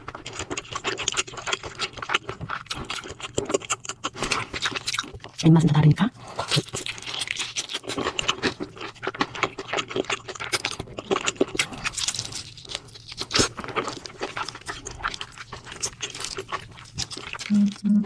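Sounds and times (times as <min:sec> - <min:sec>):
person chewing food: 0:00.0 - 0:05.5, 0:06.2 - 0:18.0.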